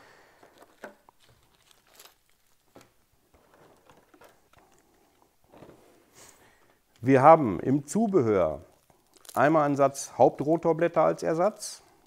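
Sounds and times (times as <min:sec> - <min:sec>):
faint clicks and rustles of packaging: 0:00.0 - 0:12.0.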